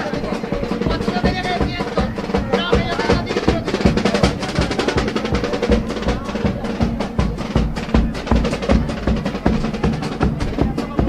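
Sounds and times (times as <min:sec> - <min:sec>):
bass drum and snare beat: 0:00.0 - 0:11.0.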